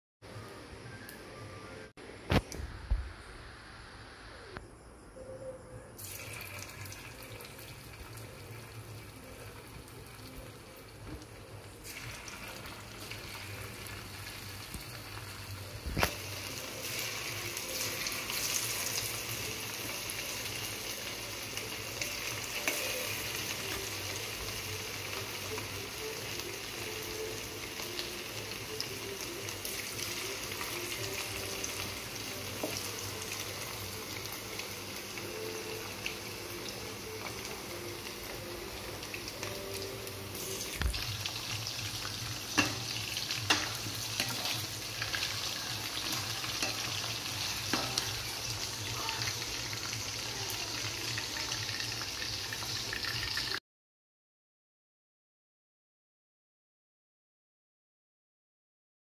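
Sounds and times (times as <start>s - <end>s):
food deep-frying and bubbling: 6.0s - 53.6s
oil sizzling in a wok: 6.0s - 53.6s.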